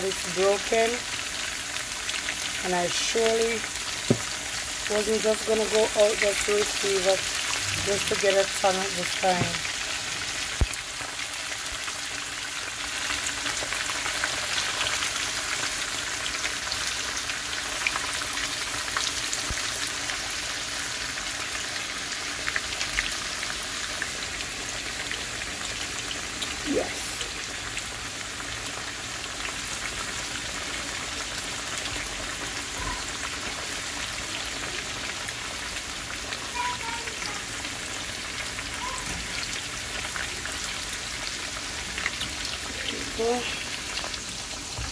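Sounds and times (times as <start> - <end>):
fish deep-frying in oil: 0.0 - 44.9.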